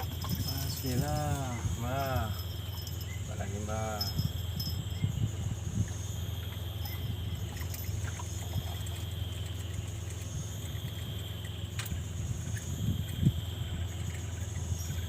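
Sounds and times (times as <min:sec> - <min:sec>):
constant low hum: 0:00.0 - 0:15.0
insects trilling: 0:00.0 - 0:15.0.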